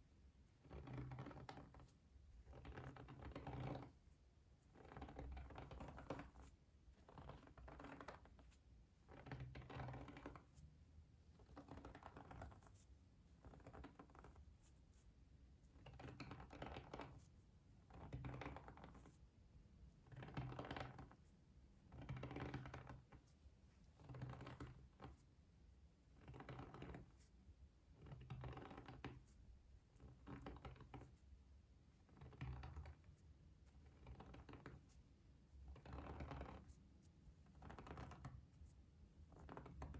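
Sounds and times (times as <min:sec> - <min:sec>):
soft scratching or tapping: 0:00.5 - 0:10.7, 0:11.3 - 0:19.3, 0:19.9 - 0:25.4, 0:26.0 - 0:39.9.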